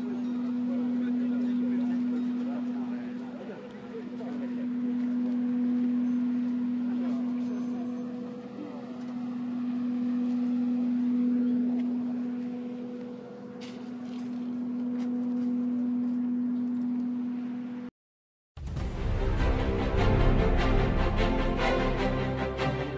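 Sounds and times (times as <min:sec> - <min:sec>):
low droning tone: 0:00.0 - 0:17.9, 0:18.6 - 0:22.9.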